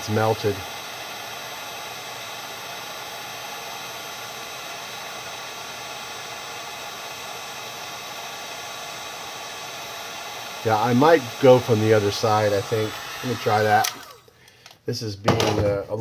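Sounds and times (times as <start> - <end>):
heat gun hissing hot air: 0.0 - 14.3.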